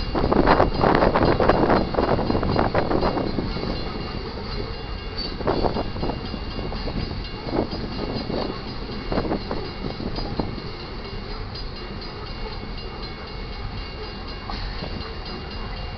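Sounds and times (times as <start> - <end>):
freight train rumbling: 0.0 - 15.9.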